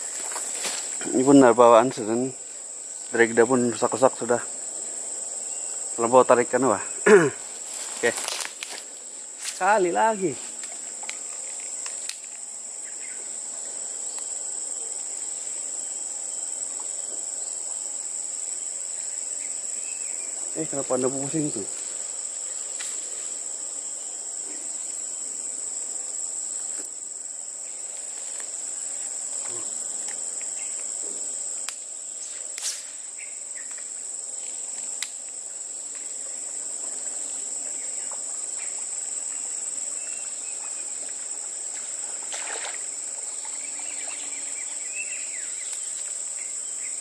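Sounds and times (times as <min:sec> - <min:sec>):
shrill insect chorus: 0:00.0 - 0:47.0.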